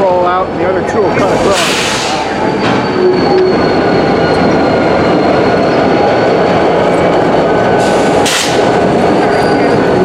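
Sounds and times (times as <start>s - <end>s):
rail car wheels rumbling on track: 0.0s - 10.0s
high wheel squeal: 1.2s - 7.2s, 7.8s - 10.0s.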